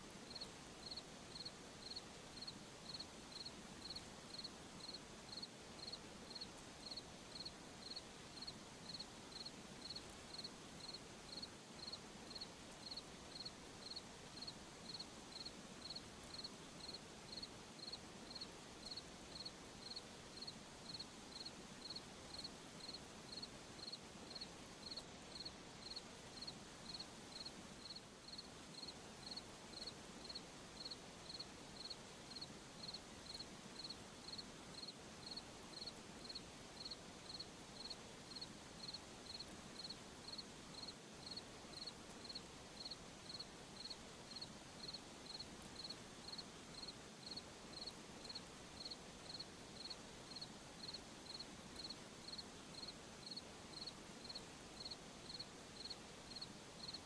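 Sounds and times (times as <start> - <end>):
faint hiss: 0.0 - 57.0
cricket chirping: 0.3 - 57.0.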